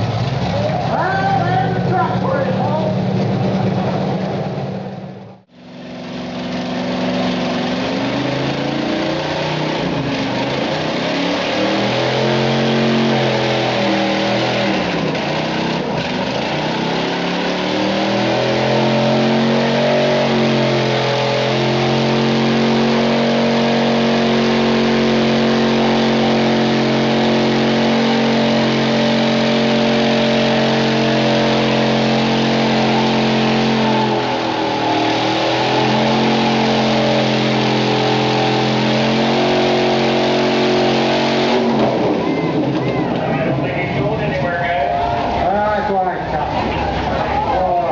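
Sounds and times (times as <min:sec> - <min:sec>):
truck engine at high revs: 0:00.0 - 0:47.9.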